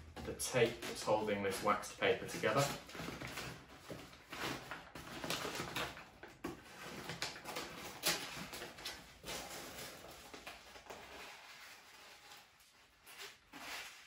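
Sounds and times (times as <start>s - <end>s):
paper crinkling and rustling: 0.1s - 14.0s.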